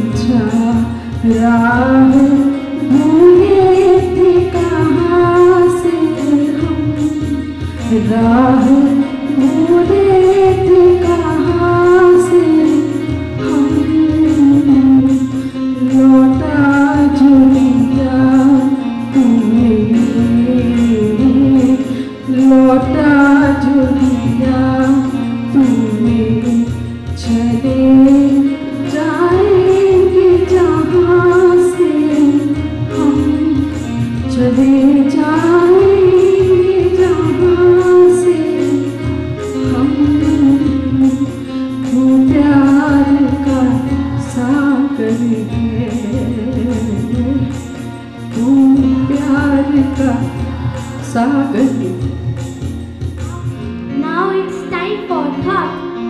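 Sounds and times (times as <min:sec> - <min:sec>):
instrumental accompaniment: 0:00.0 - 0:56.0.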